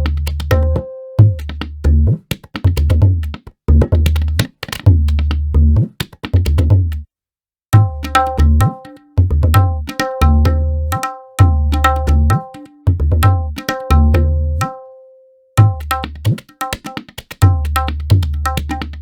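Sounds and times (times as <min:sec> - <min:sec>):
tabla rhythmic pattern: 0:00.0 - 0:07.1, 0:07.8 - 0:19.0.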